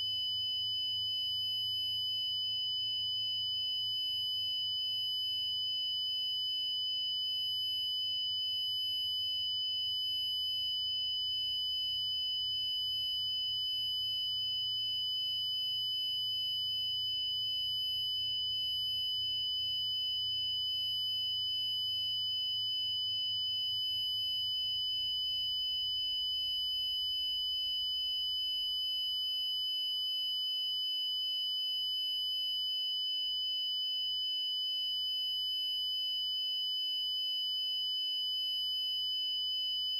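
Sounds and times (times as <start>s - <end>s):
electronic sine-tone alert: 0.0s - 39.9s.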